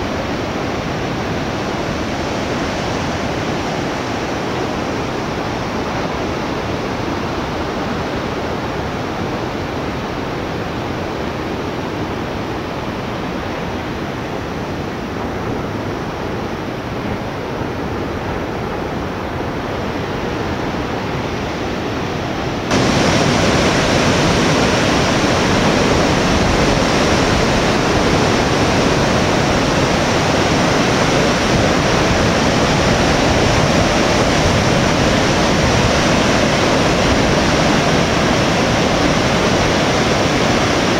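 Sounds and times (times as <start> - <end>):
ocean surf: 0.0 - 40.9
wind: 0.0 - 40.9.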